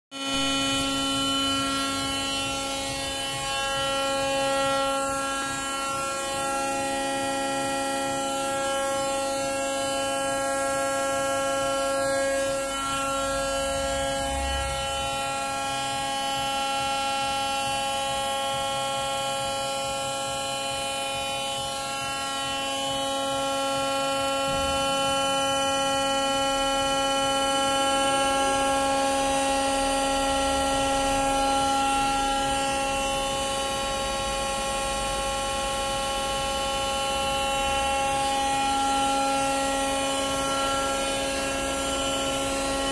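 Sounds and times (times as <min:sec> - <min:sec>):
lathe motor whine: 0:00.2 - 0:42.9.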